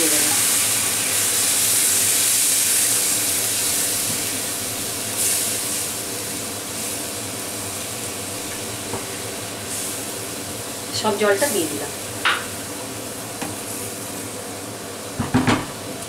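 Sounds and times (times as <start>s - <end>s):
paste sizzling in a pan: 0.0s - 15.2s.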